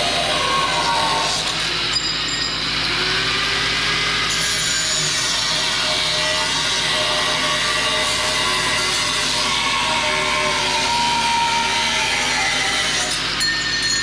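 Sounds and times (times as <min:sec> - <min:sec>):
angle grinder on steel: 0:00.0 - 0:14.0.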